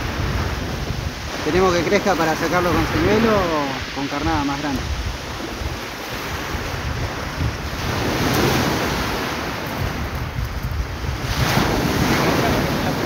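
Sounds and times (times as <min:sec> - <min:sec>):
surf breaking on beach: 0:00.0 - 0:13.0
wind rumbling on microphone: 0:00.0 - 0:13.0.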